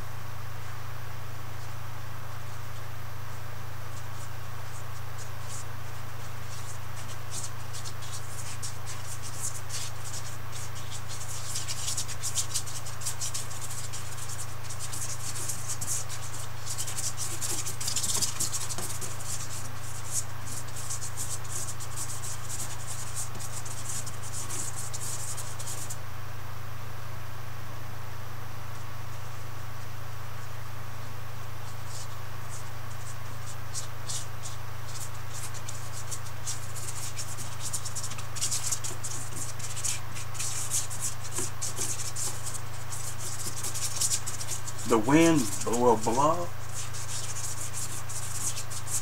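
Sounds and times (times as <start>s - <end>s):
steady low hum: 0.0s - 49.0s
paintbrush scratching on canvas: 3.8s - 26.0s, 31.6s - 49.0s.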